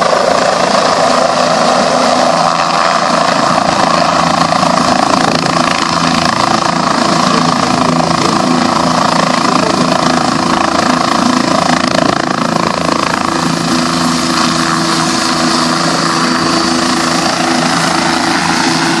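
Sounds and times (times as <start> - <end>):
helicopter hovering: 0.0 - 19.0.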